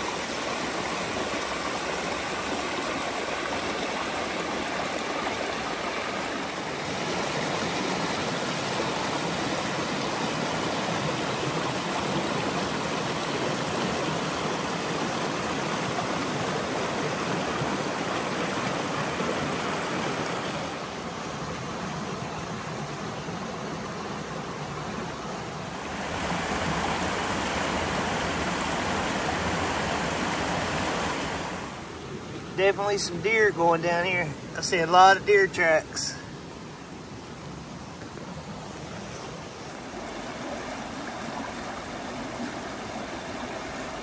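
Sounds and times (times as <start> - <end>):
creek rushing over stones: 0.0 - 44.0.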